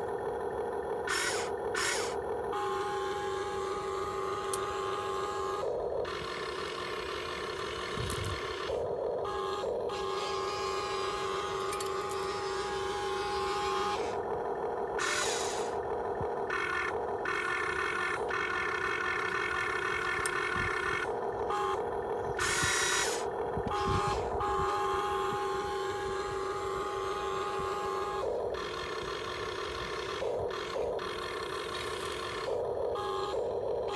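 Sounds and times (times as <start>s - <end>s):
electric gear motors whining: 0.0s - 33.9s.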